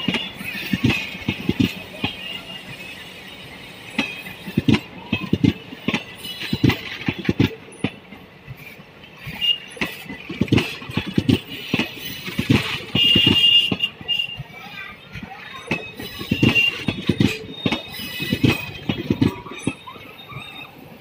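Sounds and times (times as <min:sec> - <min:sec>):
train wheels knocking on rail joints: 0:00.0 - 0:02.9, 0:03.9 - 0:19.9
train running hiss: 0:00.0 - 0:21.0.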